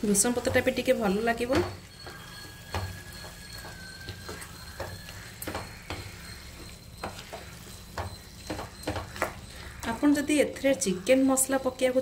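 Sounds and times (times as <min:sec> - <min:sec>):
spatula scraping a pan: 0:00.0 - 0:10.6
food sizzling in oil: 0:00.0 - 0:11.0.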